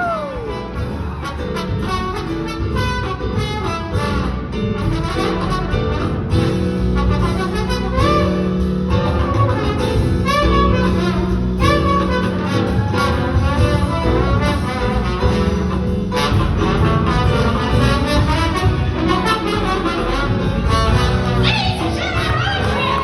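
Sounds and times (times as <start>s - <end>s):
jazzy pit band with brass: 0.0s - 23.0s.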